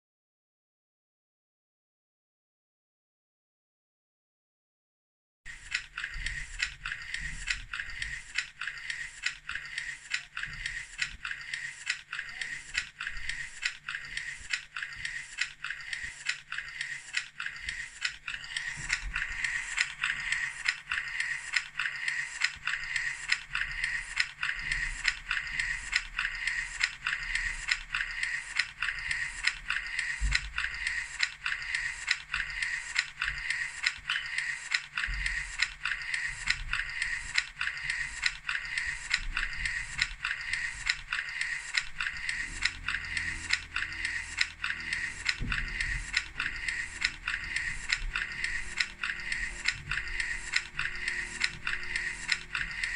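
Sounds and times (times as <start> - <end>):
rhythmic mechanical clicking: 5.5 - 52.9
whirring hum: 5.5 - 52.9.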